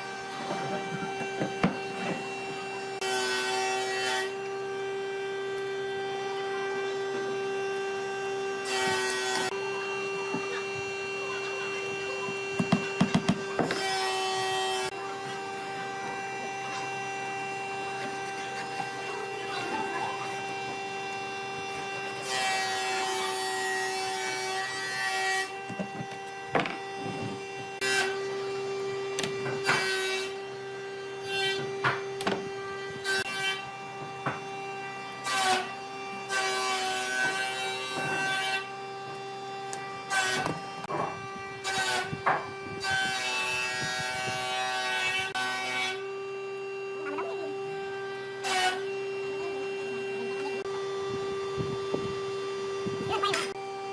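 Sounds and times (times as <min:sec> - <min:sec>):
power tool motor humming: 0:00.0 - 0:53.9.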